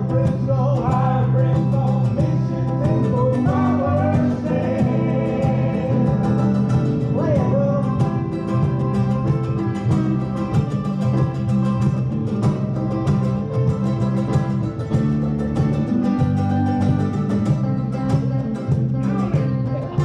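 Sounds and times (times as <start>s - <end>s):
bluegrass band playing: 0.0s - 20.0s.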